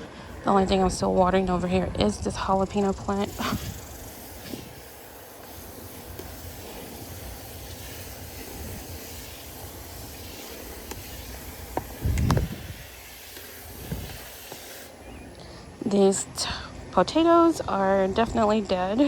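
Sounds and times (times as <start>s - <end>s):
garden hose water spraying: 0.0s - 16.2s.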